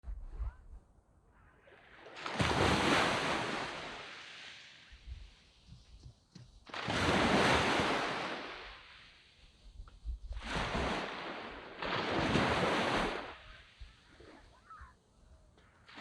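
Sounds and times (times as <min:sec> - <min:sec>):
small waves breaking on beach: 0:01.4 - 0:16.0.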